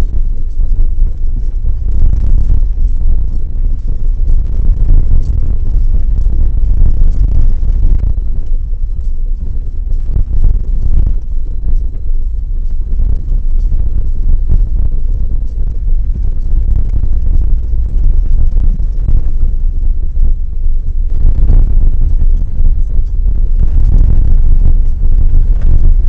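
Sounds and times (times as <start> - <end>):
trailer road rumble: 0.0 - 26.0
wind buffeting microphone: 0.0 - 26.0.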